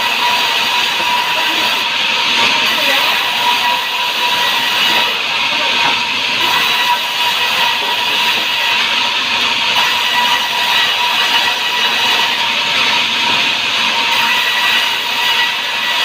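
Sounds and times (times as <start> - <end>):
saw cutting timber: 0.0 - 16.0.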